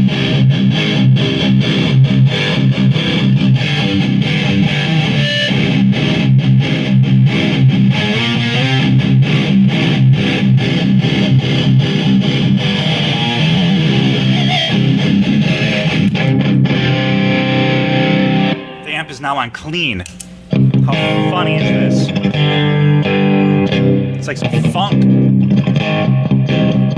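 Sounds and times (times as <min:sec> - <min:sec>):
distorted electric guitar riff: 0:00.0 - 0:26.9.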